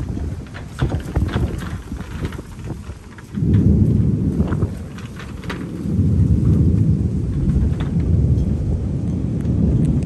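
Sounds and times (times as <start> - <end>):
rolling thunder: 0.0 - 10.0.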